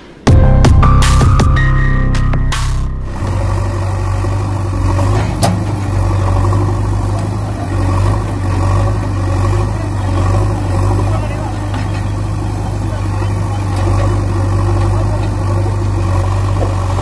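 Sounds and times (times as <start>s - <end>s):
engine idling: 0.3s - 17.0s.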